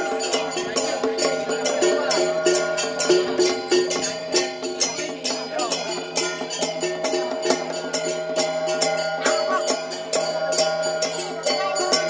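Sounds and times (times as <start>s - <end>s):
steady percussion beat: 0.0s - 12.0s.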